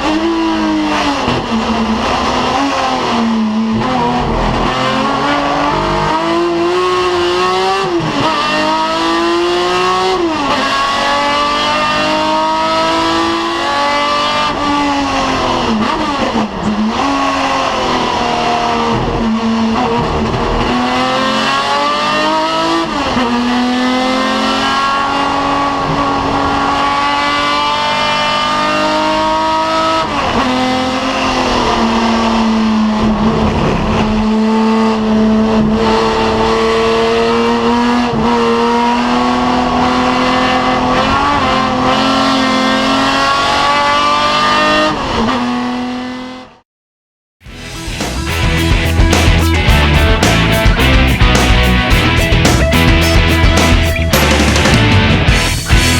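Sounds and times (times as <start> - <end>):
racing car engine revving: 0.0 - 46.6, 47.5 - 55.9.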